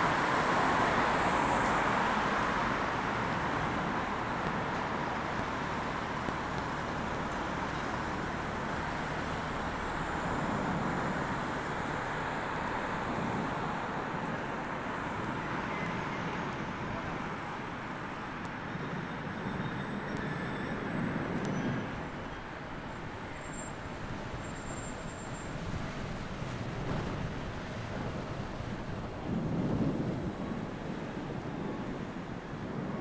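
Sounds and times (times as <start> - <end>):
cars passing on busy street: 0.0 - 33.0.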